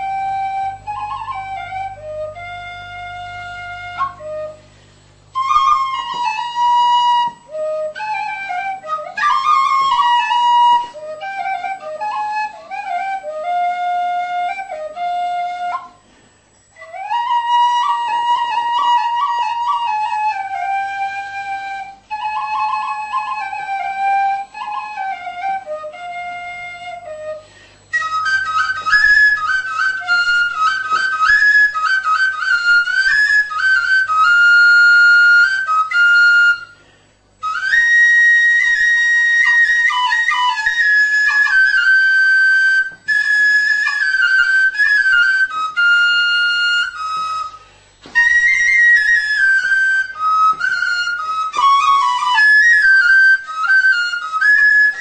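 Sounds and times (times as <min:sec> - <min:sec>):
flute solo melody: 0:00.0 - 0:04.7, 0:05.3 - 0:16.0, 0:16.7 - 0:36.8, 0:37.4 - 0:55.0.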